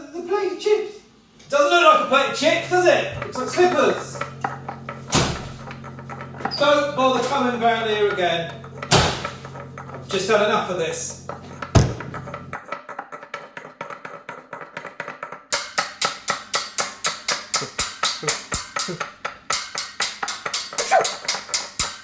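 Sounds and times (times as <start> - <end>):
fast tapping on hard object: 2.4 - 22.0.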